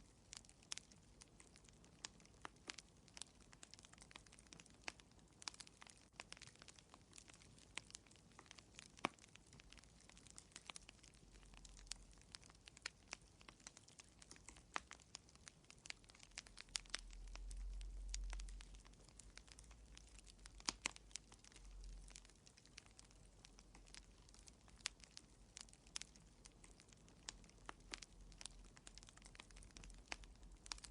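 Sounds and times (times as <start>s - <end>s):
faint low rumble: 0.0s - 30.9s
wood fire crackling: 0.0s - 30.9s.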